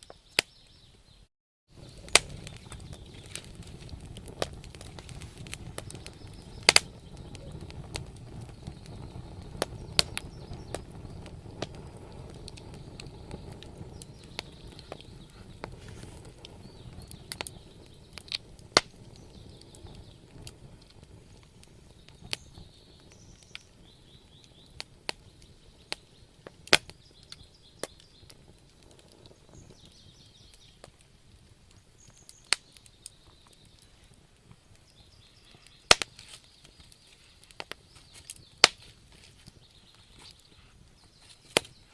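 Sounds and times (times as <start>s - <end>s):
wood fire crackling and popping: 0.0s - 0.9s, 1.7s - 41.9s
low rumble of flames: 1.7s - 41.9s.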